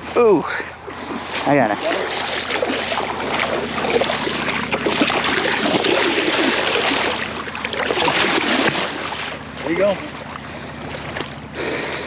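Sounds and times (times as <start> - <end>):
water splashing and churning: 0.0 - 12.0.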